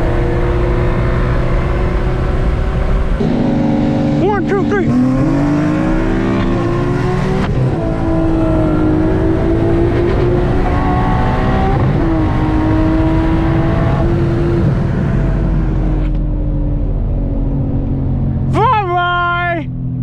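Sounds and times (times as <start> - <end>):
car engine accelerating hard: 0.0 - 18.6.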